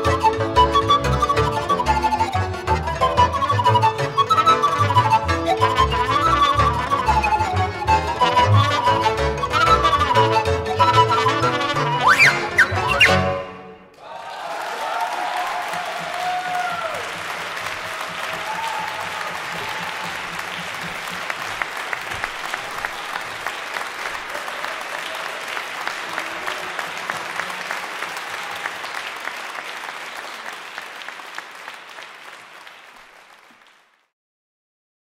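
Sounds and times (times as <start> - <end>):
audience applauding: 0.0 - 13.0, 13.9 - 34.1.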